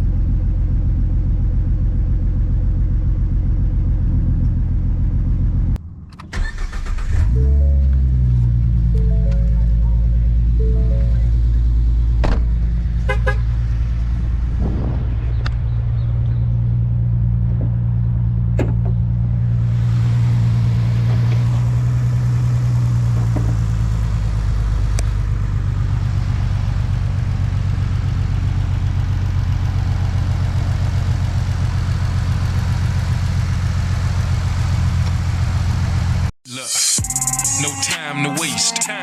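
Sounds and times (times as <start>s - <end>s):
car engine running: 0.0s - 36.3s.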